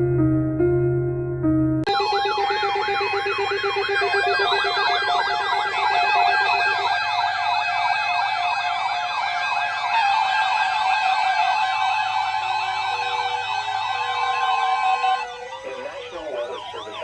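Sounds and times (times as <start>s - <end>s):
electric piano music: 0.0s - 17.0s
siren-style emergency alert tone: 1.9s - 17.0s.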